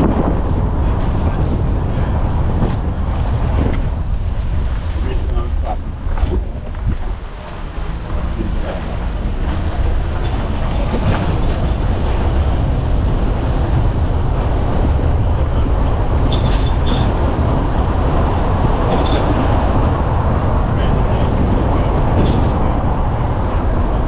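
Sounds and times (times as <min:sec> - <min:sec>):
vehicle rumbling: 0:00.0 - 0:24.0.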